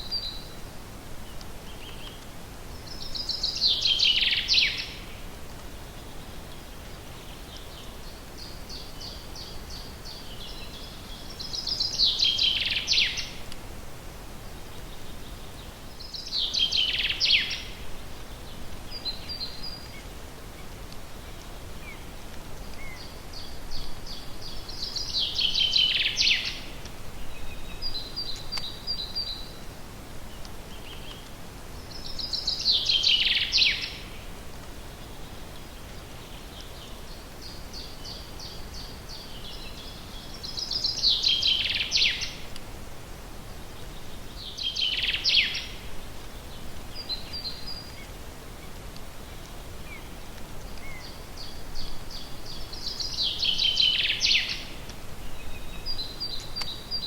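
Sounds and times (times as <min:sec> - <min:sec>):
songbird singing: 0:00.0 - 0:57.0
steady background hiss: 0:00.0 - 0:57.0.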